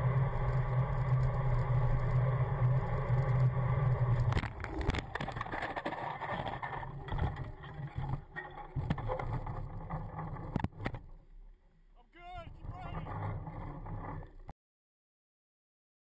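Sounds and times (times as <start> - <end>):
knocks and rattles of bike: 0.0 - 11.4, 12.5 - 14.5
low hum of bicycle riding: 0.0 - 14.5.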